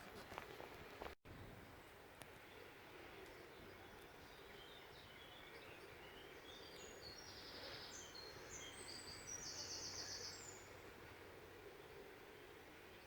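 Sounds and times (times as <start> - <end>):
songbird singing: 1.7 - 13.0.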